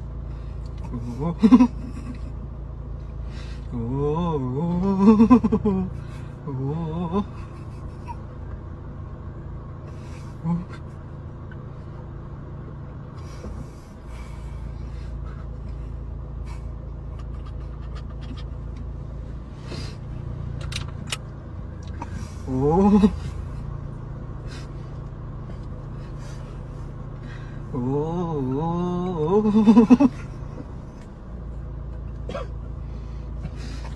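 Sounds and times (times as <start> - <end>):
car cabin rumble and hum: 0.0 - 33.9.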